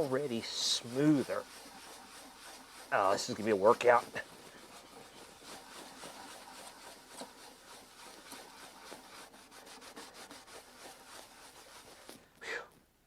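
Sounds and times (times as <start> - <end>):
hand scrubbing plastic lens: 0.0 - 12.4.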